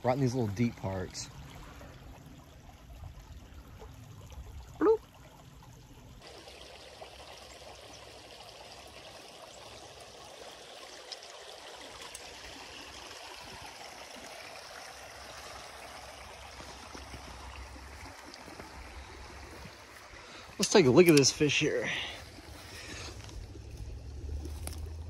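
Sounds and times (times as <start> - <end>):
creek water trickling: 0.0 - 25.0.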